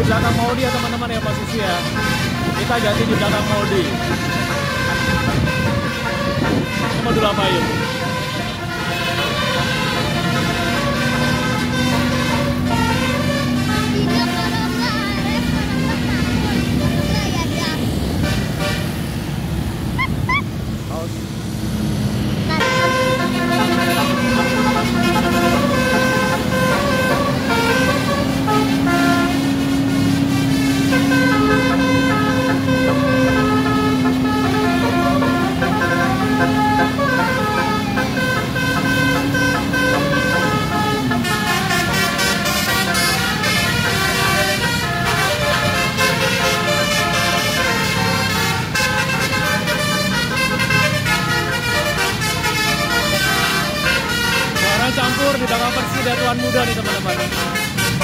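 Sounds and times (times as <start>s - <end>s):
motorcycle engines: 0.0s - 58.0s
traffic noise: 0.0s - 58.0s
musical air horn playing a tune: 1.7s - 14.6s, 22.5s - 58.0s.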